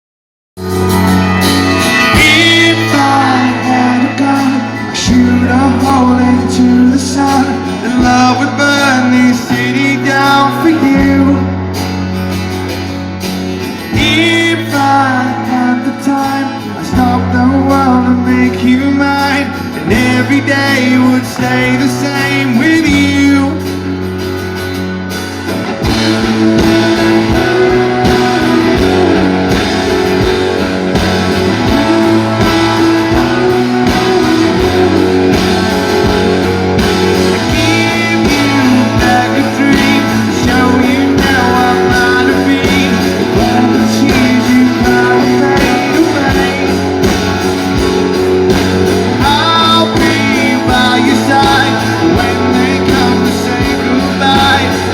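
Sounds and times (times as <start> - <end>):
man singing: 0.6 - 11.8, 13.8 - 24.1, 25.7 - 54.9
live rock band playing: 0.6 - 54.9.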